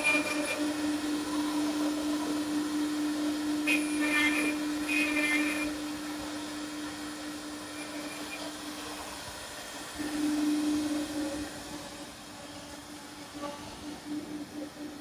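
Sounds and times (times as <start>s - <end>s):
air and machinery noise: 0.0s - 15.0s
cnc machine spindles whining: 0.0s - 15.0s.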